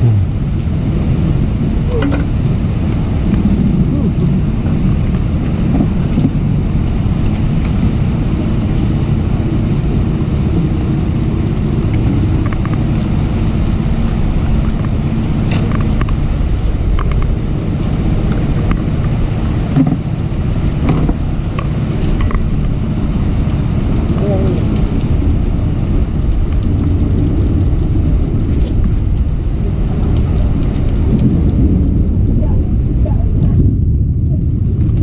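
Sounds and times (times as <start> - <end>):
heavy rain falling: 0.0 - 35.0
wind buffeting microphone: 0.0 - 35.0.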